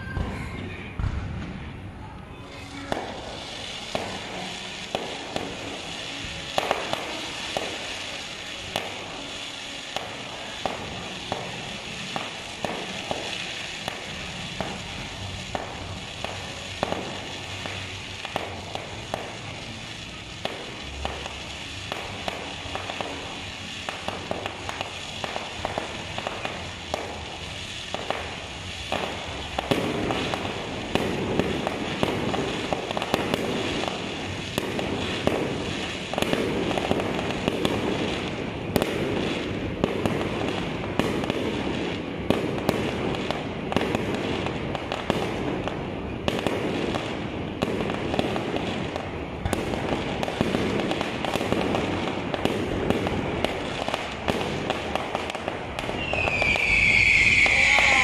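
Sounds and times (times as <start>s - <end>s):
fireworks bangs: 0.0s - 58.0s
fireworks crackling and popping: 0.0s - 58.0s.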